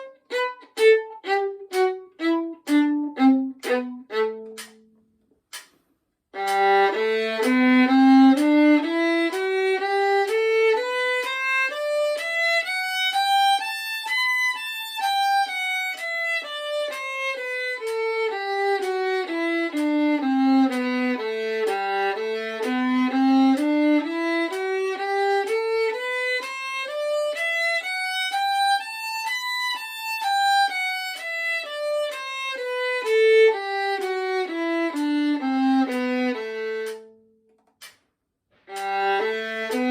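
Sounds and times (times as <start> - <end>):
violin playing a scale: 0.0 - 5.0, 6.4 - 38.0, 38.6 - 39.9.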